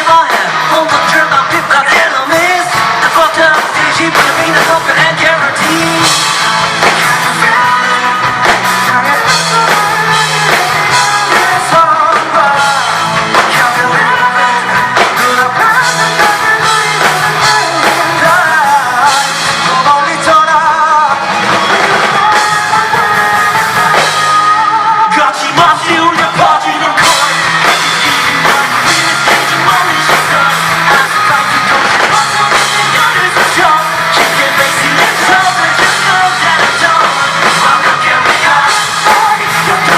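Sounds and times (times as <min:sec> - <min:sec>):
live rock band playing: 0:00.0 - 0:39.9
person singing lead vocal: 0:00.0 - 0:39.9.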